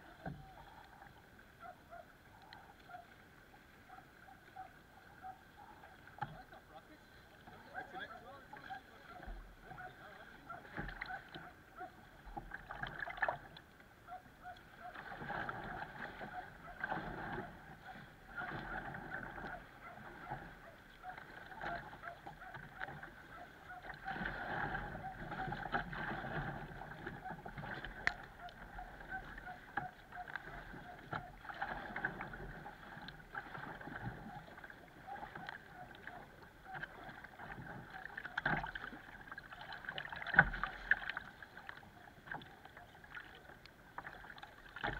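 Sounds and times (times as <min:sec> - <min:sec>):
water splashing against kayak hull: 0:00.0 - 0:44.9.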